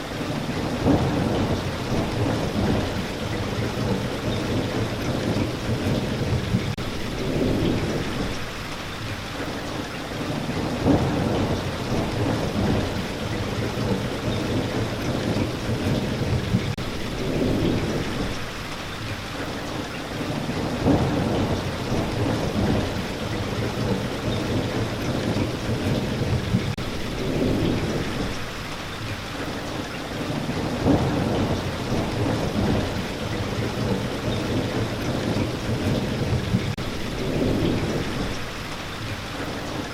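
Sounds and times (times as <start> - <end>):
steady rain falling: 0.0 - 39.9
rolling thunder: 0.5 - 8.8, 10.3 - 18.8, 20.3 - 28.8, 30.2 - 39.1.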